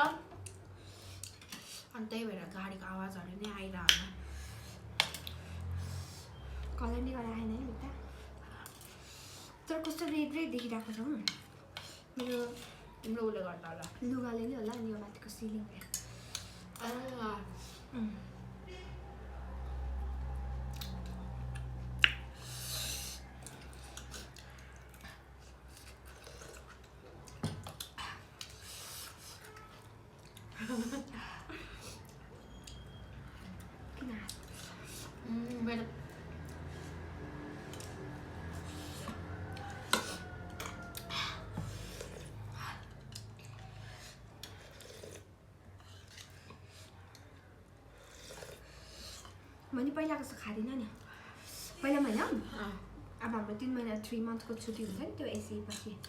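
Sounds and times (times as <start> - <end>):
road traffic rumble: 0.2 - 56.0
soft chewing: 0.3 - 6.8, 7.7 - 18.6, 19.2 - 53.2.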